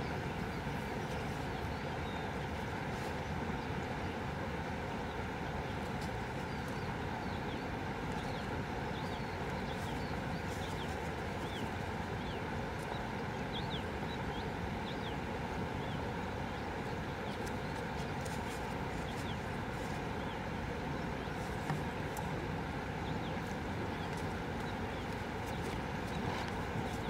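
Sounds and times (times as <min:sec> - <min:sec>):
outdoor background rush: 0:00.0 - 0:27.0.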